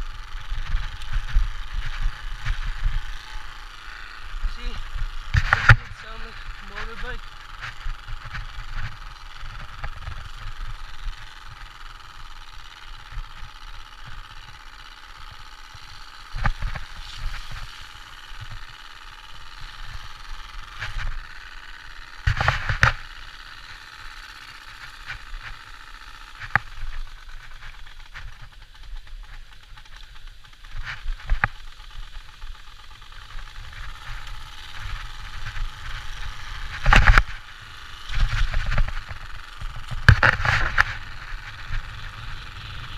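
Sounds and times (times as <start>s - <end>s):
card buzzing against bicycle spokes: 0.0s - 42.9s
sharp knocks and rattles: 0.4s - 42.9s.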